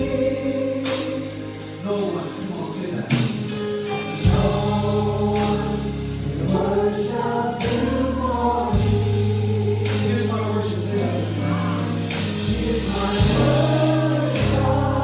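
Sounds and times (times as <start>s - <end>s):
steady bass line: 0.0s - 1.9s, 4.2s - 15.0s
gospel choir singing: 0.0s - 15.0s.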